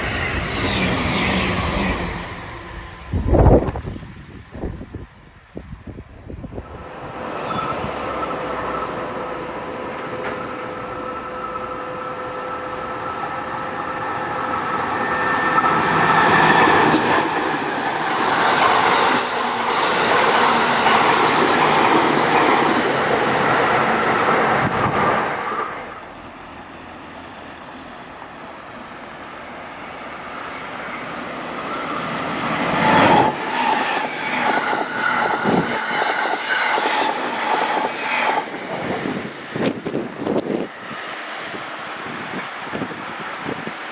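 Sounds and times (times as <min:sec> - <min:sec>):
electric train passing at speed: 0:00.0 - 0:43.9.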